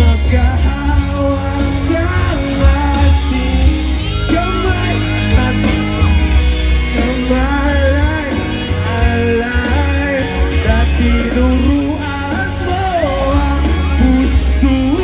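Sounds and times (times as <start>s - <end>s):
live band with heavy bass: 0.0s - 15.0s
person singing: 0.0s - 15.0s.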